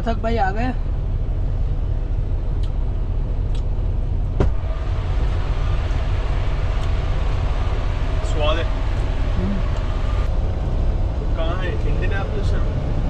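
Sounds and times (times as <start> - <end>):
truck engine rumble inside cab: 0.0 - 13.0.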